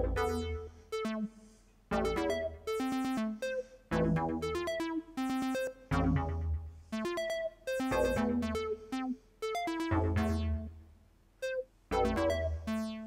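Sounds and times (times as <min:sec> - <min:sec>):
looping synth pattern: 0:00.0 - 0:13.0.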